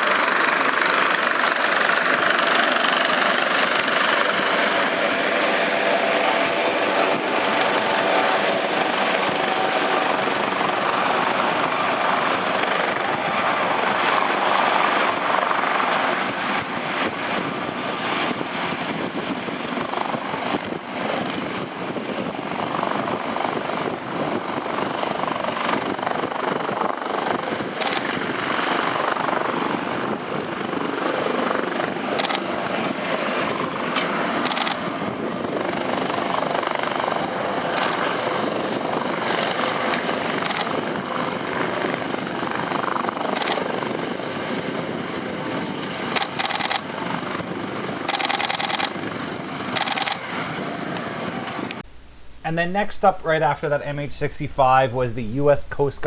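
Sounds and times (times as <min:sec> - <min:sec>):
helicopter engines and rotors: 0:00.0 - 0:51.9.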